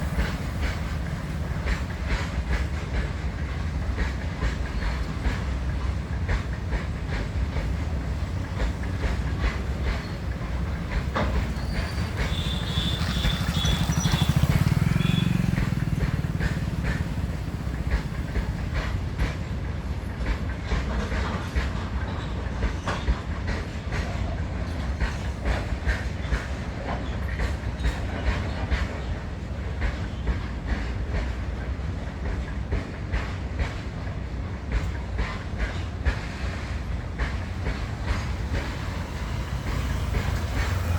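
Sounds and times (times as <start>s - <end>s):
freight train rumbling past: 0.0s - 40.9s
wheels clickety-clack over rail joints: 0.0s - 40.9s.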